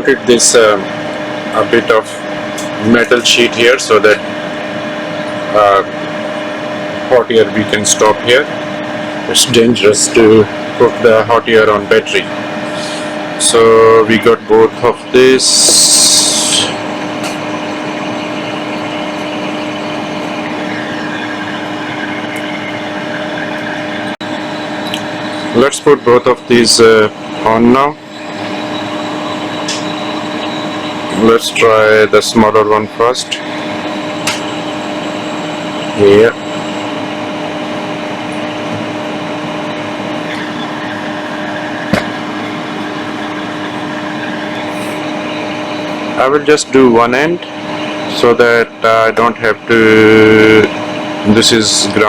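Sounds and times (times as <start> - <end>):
fan humming: 0.0 - 52.0
hot air blower hissing: 0.0 - 52.0.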